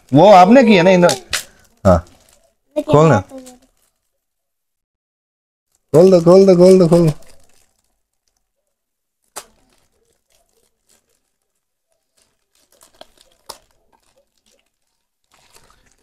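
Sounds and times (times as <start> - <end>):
gift paper tearing and crinkling: 0.0 - 4.2, 5.7 - 8.6, 9.2 - 16.0
sharp paper crackle: 0.0 - 4.3, 5.7 - 16.0.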